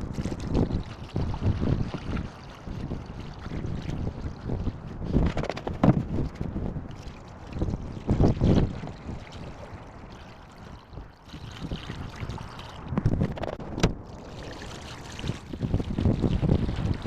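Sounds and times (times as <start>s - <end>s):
wind gusting on microphone: 0.0s - 17.0s.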